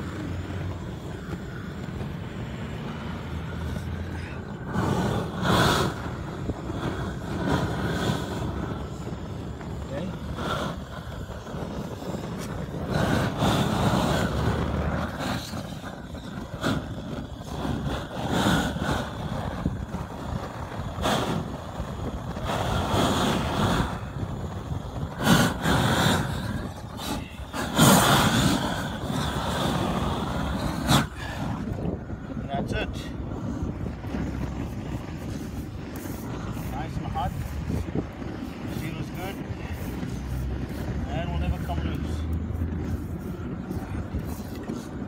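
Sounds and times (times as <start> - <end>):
torch flame rushing: 0.0 - 45.0.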